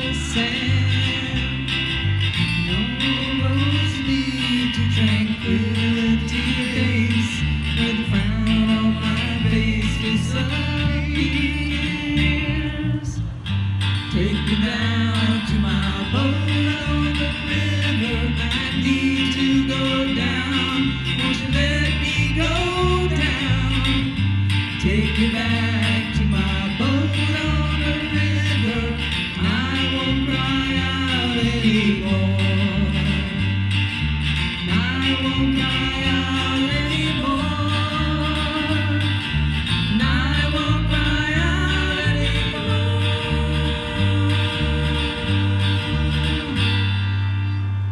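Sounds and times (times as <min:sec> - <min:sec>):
person singing: 0:00.0 - 0:01.9, 0:02.6 - 0:13.4, 0:14.1 - 0:33.6, 0:34.6 - 0:39.3, 0:39.9 - 0:47.6
acoustic guitar strumming: 0:00.0 - 0:47.9
bass guitar line: 0:00.0 - 0:47.9.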